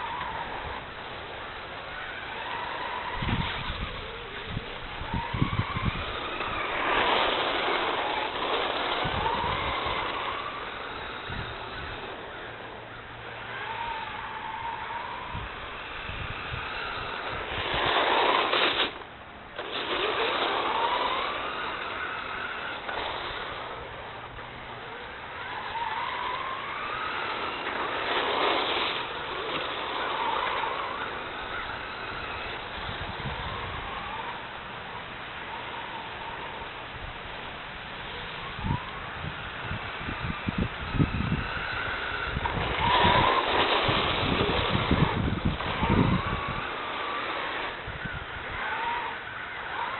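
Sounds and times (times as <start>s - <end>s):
toy car motor whining: 0.0s - 49.9s.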